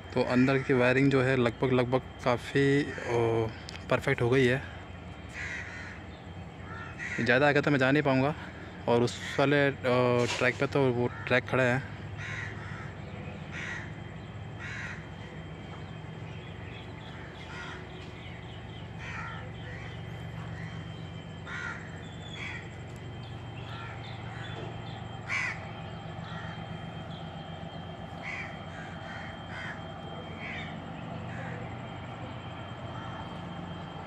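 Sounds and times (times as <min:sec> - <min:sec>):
crows cawing: 0:00.0 - 0:34.0
steady low hum: 0:00.0 - 0:34.0.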